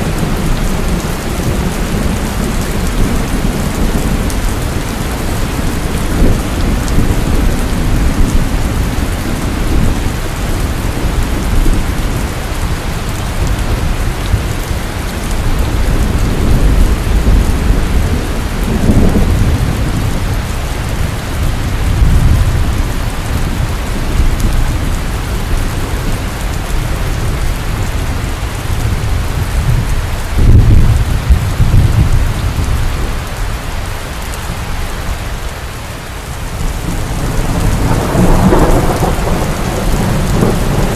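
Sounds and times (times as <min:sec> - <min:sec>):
rolling thunder: 0:00.0 - 0:33.3, 0:36.6 - 0:40.9
heavy rain: 0:00.0 - 0:40.9.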